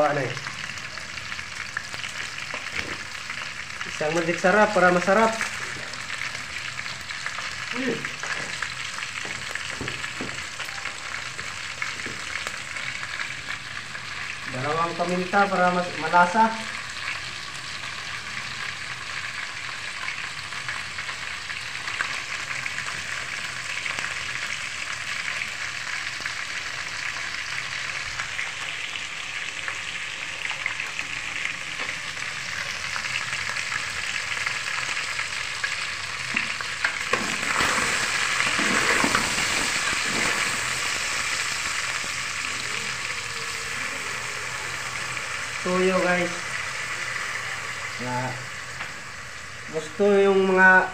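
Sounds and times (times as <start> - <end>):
food sizzling in a pot: 0.0 - 50.9.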